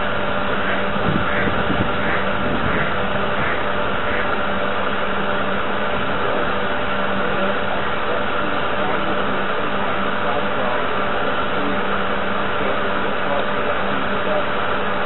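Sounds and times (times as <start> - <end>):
model boat mechanical hum: 0.0 - 15.0.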